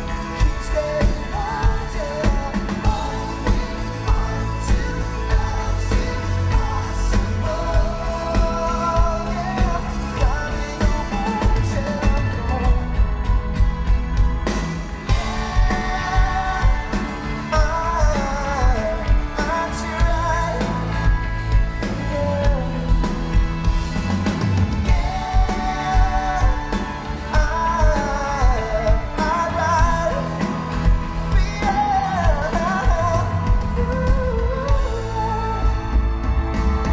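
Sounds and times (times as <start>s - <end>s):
lead vocal singing: 0.0s - 36.9s
live pop-rock band: 0.0s - 36.9s.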